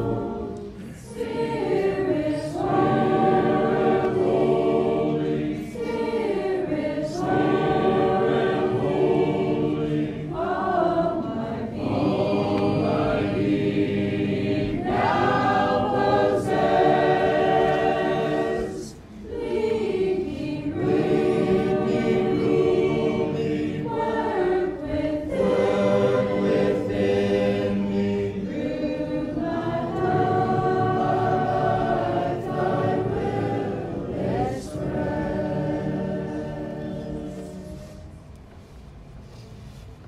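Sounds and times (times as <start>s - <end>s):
congregation singing a hymn: 0.0s - 40.0s.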